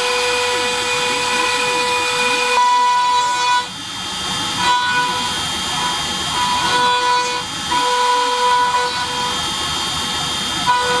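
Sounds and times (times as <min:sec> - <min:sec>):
spindle high whine: 0:00.0 - 0:11.0.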